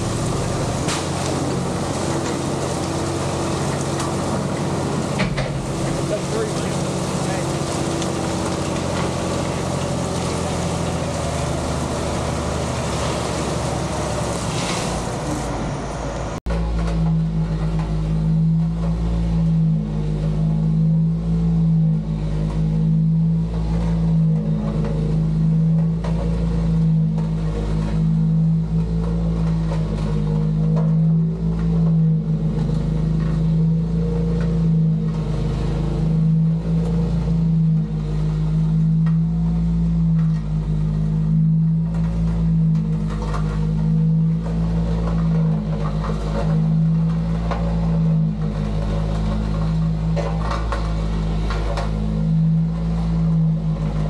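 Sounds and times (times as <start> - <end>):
heavy equipment engine under load: 0.0 - 54.0
machine working gravel: 0.0 - 54.0.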